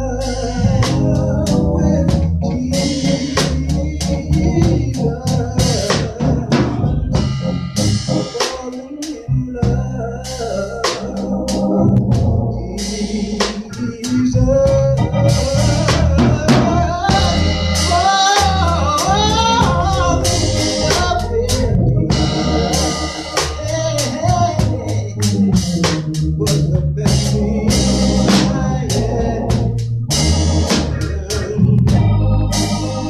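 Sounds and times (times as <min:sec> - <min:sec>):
pitch-bending melodic line: 0:00.0 - 0:08.7, 0:09.4 - 0:33.0
drum kit beat: 0:00.0 - 0:33.0
keyboard: 0:00.0 - 0:33.0
low bass: 0:00.0 - 0:33.0.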